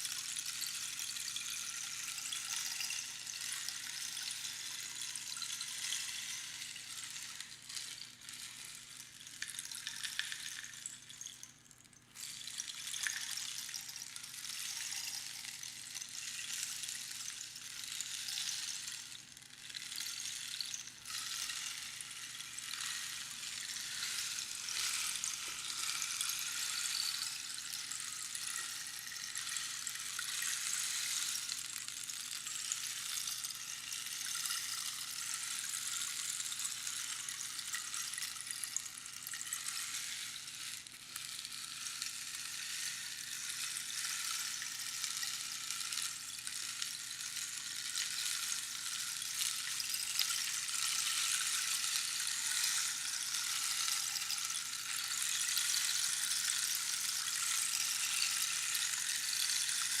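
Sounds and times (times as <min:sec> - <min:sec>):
rainstick pebbles pattering: 0:00.0 - 1:00.0.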